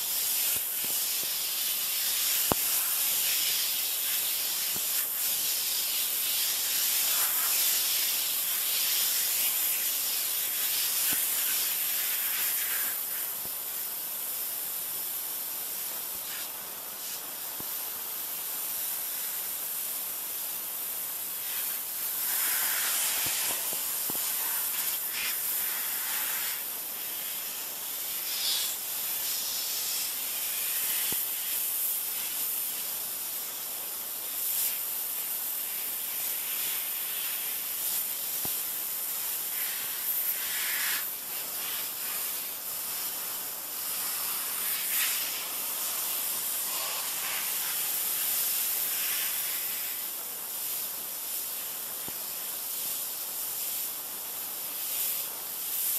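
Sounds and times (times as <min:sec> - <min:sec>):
pressure washer spraying plastic: 0:00.0 - 0:55.9.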